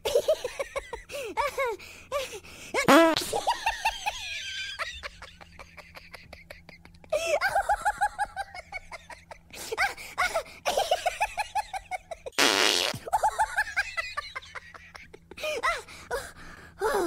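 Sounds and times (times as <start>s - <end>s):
person laughing: 2.8s - 17.0s.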